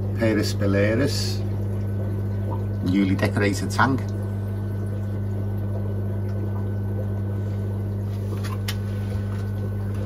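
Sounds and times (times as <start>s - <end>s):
aquarium equipment humming: 0.0s - 10.0s
water trickling: 0.0s - 10.0s.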